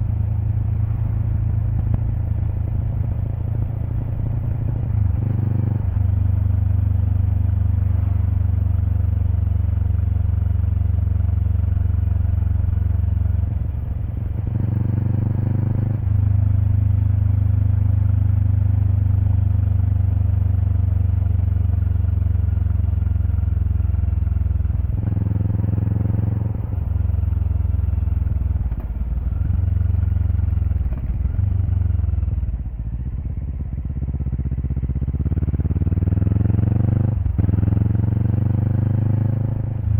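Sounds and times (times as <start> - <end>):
motorcycle engine exhaust: 0.0 - 39.9.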